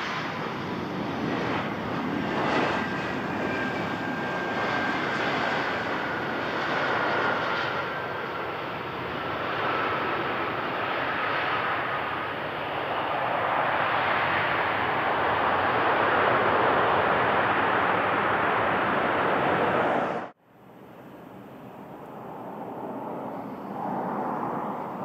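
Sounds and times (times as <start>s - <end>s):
jet engine noise: 0.0s - 25.0s.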